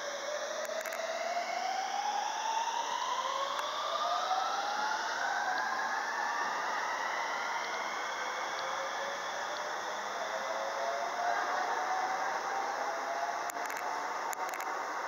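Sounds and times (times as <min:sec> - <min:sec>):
electric train motors whining: 0:00.0 - 0:15.0
second rising whine: 0:00.0 - 0:15.0.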